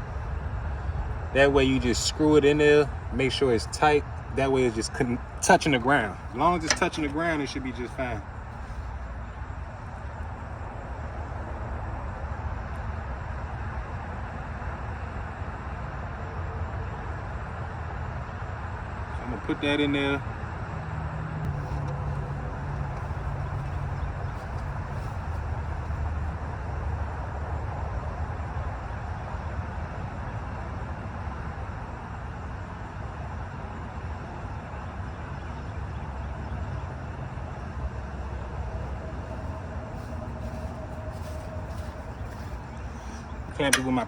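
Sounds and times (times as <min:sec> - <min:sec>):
engine running: 0:00.0 - 0:12.5, 0:19.1 - 0:44.0.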